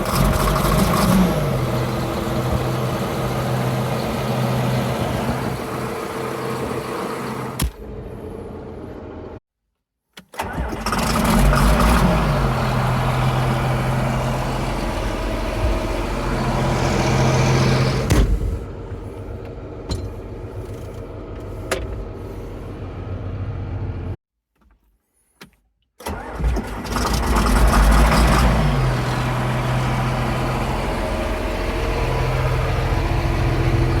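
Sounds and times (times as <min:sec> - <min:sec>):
diesel tractor engine starting and idling: 0:00.0 - 0:09.4, 0:10.4 - 0:24.2, 0:26.0 - 0:34.0.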